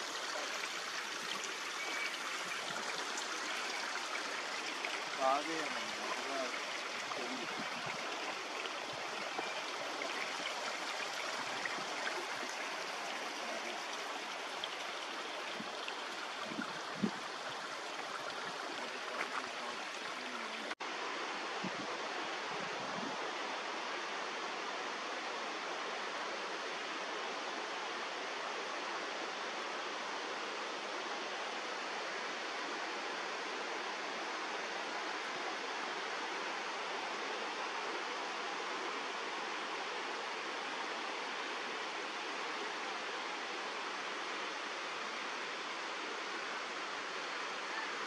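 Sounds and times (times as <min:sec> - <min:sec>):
creek flowing over rocks: 0:00.0 - 0:48.0.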